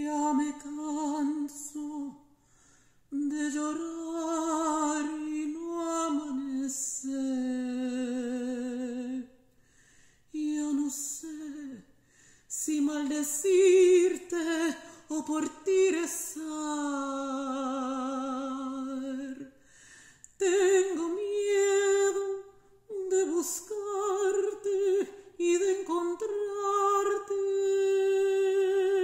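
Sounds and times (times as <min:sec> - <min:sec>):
woman singing unaccompanied: 0:00.0 - 0:02.3, 0:03.1 - 0:09.4, 0:10.3 - 0:11.9, 0:12.5 - 0:19.6, 0:20.4 - 0:29.0.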